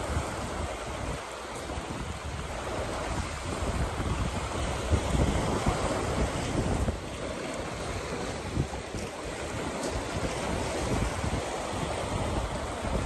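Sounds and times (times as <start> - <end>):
waves breaking on rocky shore: 0.0 - 13.0
wind rumbling on microphone: 0.0 - 13.0.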